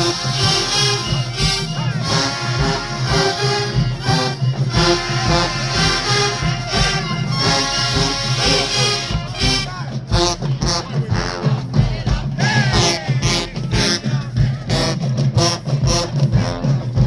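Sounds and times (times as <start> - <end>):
brass section chords: 0.0 - 17.0
marching drum line beat: 0.0 - 17.0.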